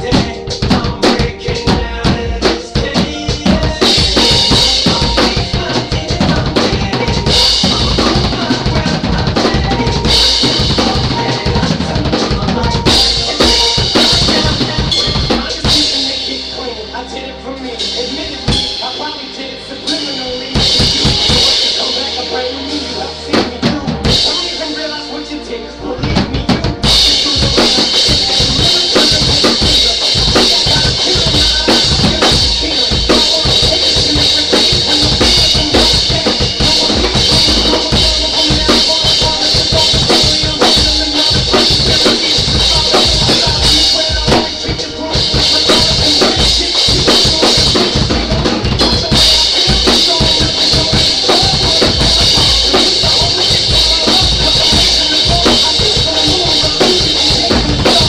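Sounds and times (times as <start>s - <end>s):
bass drum: 0.0s - 16.2s, 20.0s - 22.3s, 26.0s - 58.0s.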